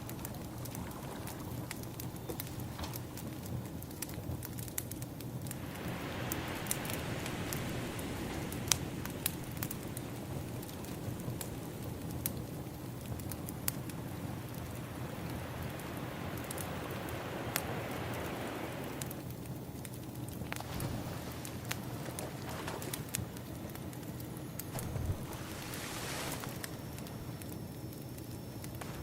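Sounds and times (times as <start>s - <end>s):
ocean waves washing in: 0.0s - 3.5s, 5.4s - 19.5s, 20.5s - 28.0s
wood fire crackling: 0.0s - 29.0s.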